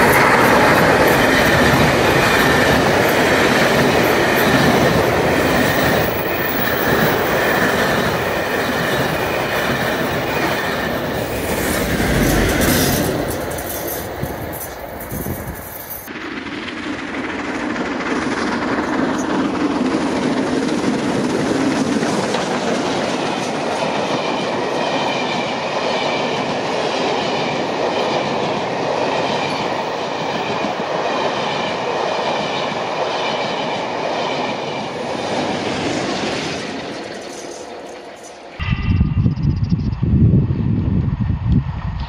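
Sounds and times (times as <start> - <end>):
steam train rolling on rails: 0.0 - 38.8
high ring of wheels on rails: 0.0 - 39.3.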